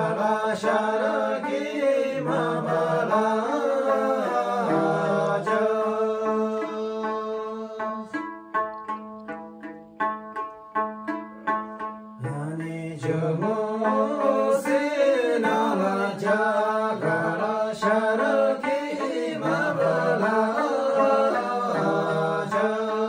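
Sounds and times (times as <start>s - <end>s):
men singing together: 0.0s - 8.0s, 12.2s - 23.0s
plucked lute: 0.0s - 23.0s.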